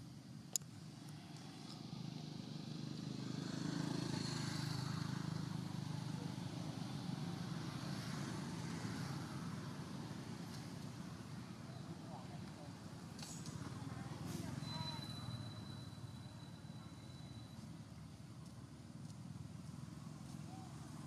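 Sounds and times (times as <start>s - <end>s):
vehicle engine rumble passing: 0.7s - 21.0s.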